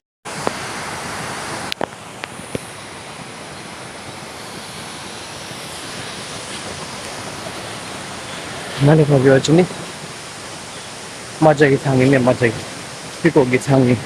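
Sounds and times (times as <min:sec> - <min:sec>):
waterfall rushing: 0:00.3 - 0:14.0.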